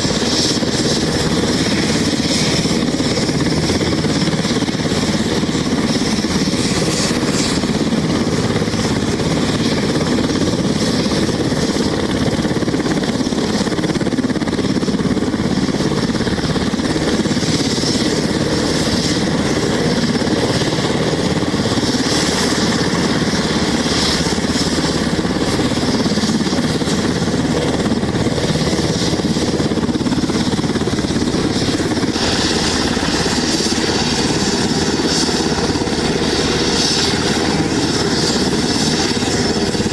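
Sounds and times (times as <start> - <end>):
helicopter engine whine and rotor chop: 0.0 - 39.9.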